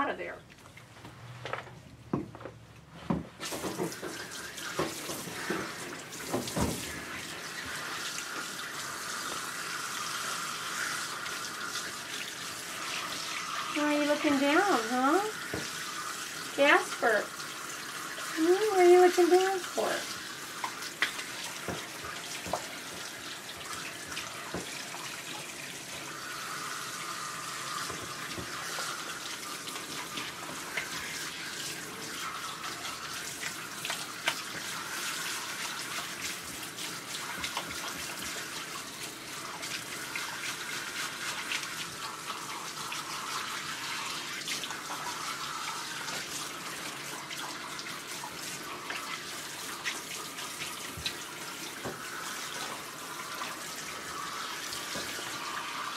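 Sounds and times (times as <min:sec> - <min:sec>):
water splashing and dripping: 0:03.4 - 0:55.9.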